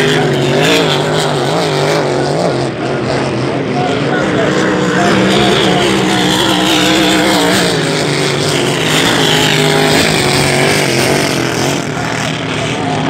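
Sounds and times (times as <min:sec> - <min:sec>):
boat engine passing with whine: 0:00.0 - 0:13.0.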